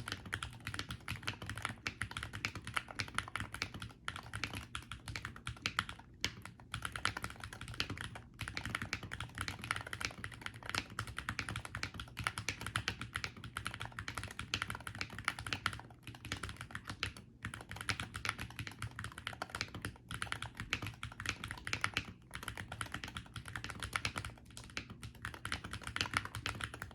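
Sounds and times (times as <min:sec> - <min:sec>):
fast keyboard typing clacks: 0:00.0 - 0:26.9.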